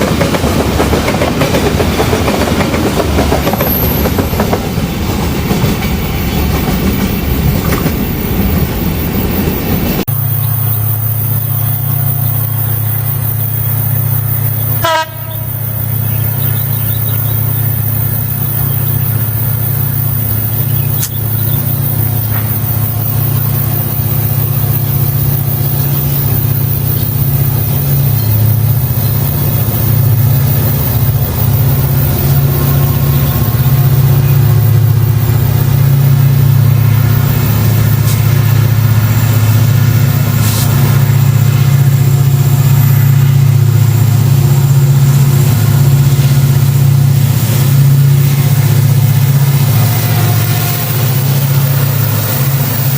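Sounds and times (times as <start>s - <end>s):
locomotive engine drone: 0.0s - 52.9s.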